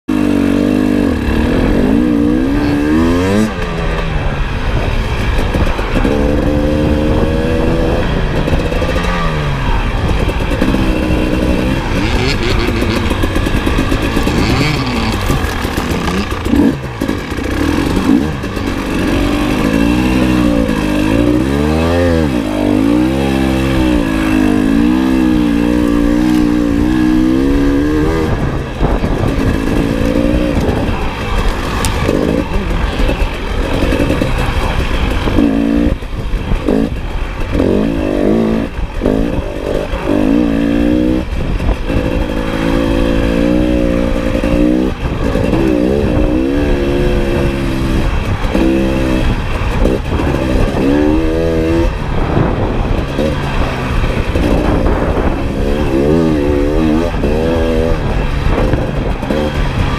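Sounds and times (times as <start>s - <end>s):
dirt bike engine revving: 0.1s - 59.9s.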